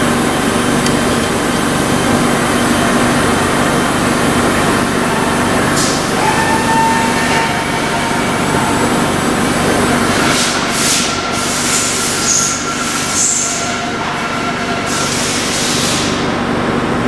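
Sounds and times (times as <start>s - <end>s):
valve grinder grinding: 0.0s - 16.4s
high hissing surges: 2.3s - 16.2s.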